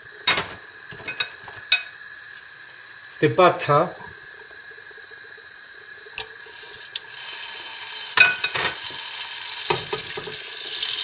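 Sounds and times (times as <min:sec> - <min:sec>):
butter sizzling in hot oil: 0:00.0 - 0:11.0.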